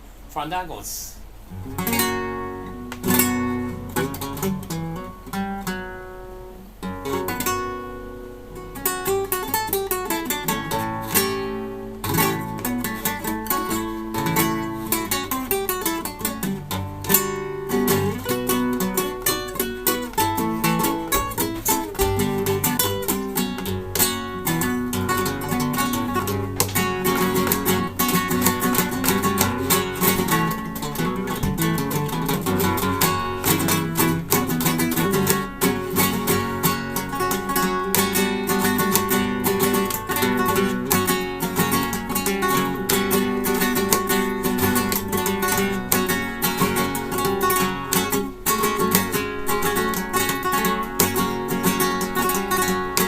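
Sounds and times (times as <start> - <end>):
flamenco guitar playing: 1.5 - 53.0.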